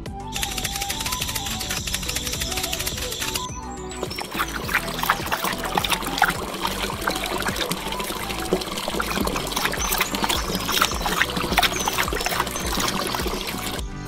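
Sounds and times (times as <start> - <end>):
low steady pump hum: 1.6 - 13.9
water trickling and splashing: 2.3 - 14.0.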